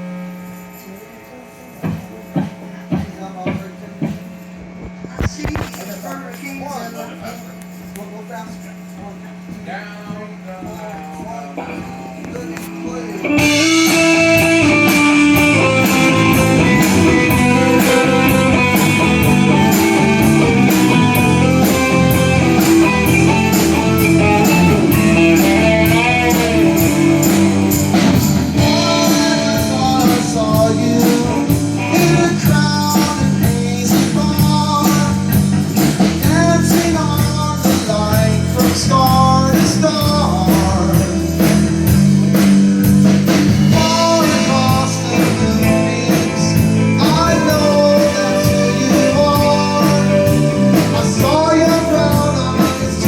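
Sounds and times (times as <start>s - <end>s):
bass guitar: 0.0s - 53.0s
steady drum beat: 1.8s - 53.0s
lead guitar bending notes: 8.9s - 53.0s.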